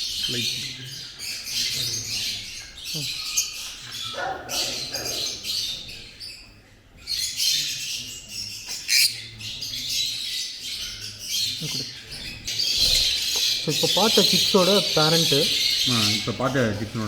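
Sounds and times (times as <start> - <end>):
lovebirds chirping and chattering: 0.0 - 17.0.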